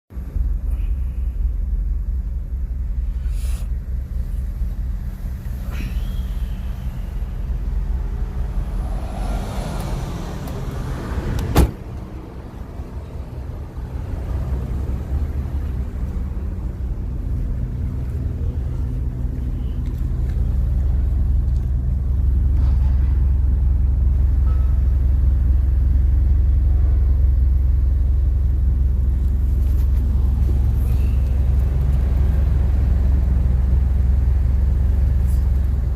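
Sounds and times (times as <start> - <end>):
car engine running: 0.1 - 35.9.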